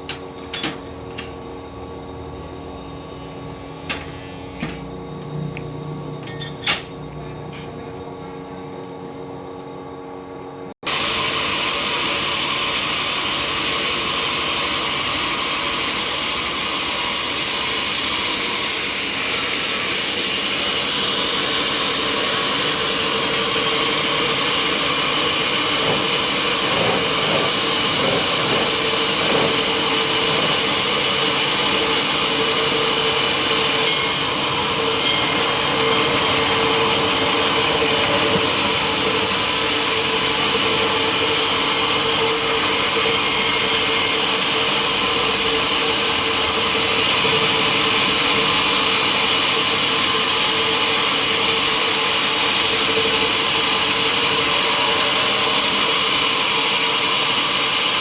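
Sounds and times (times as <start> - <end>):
saw cutting through log: 10.9 - 58.0.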